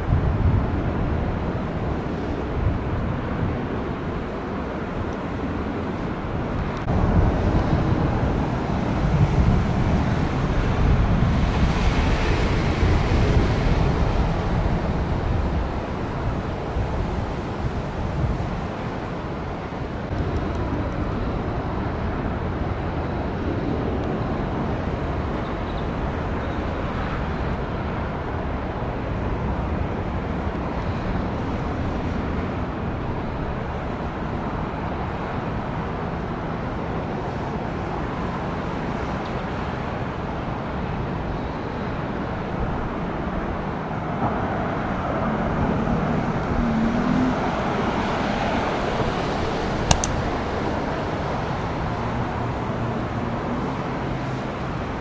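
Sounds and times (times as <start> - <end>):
jet aircraft engines: 0.0 - 55.0.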